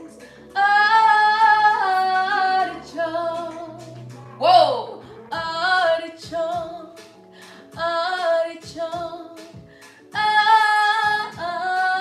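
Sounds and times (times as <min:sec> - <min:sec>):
backing track with steady beat: 0:00.0 - 0:12.0
woman singing pop song: 0:00.0 - 0:12.0.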